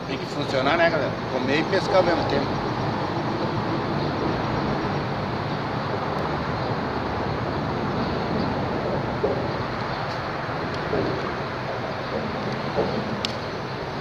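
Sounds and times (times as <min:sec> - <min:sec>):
traffic rumble over bridge: 0:00.0 - 0:14.0.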